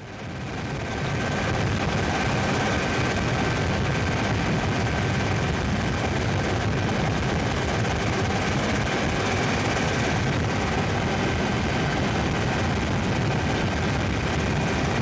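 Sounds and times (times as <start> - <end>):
helicopter engine and rotor chop: 0.0 - 15.0.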